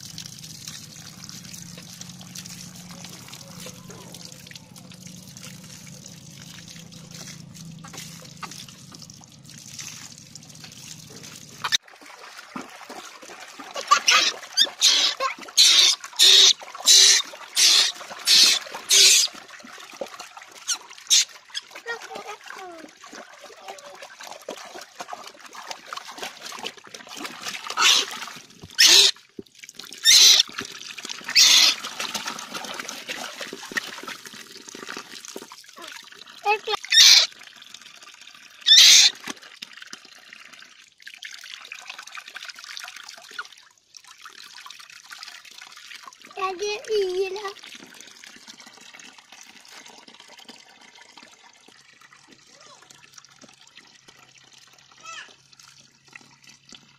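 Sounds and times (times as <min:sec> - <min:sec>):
water splashing in a tub: 0:00.0 - 0:56.9
water trickling: 0:00.0 - 0:56.9.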